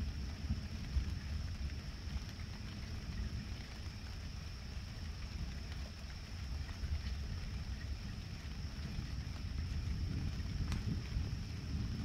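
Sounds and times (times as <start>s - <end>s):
distant thunder rumbling: 0.0s - 12.0s
steady hiss: 0.0s - 12.0s.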